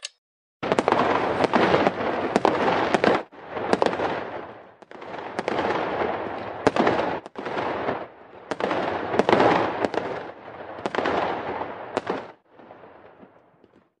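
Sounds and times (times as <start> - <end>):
fireworks banging and crackling: 0.6 - 14.0.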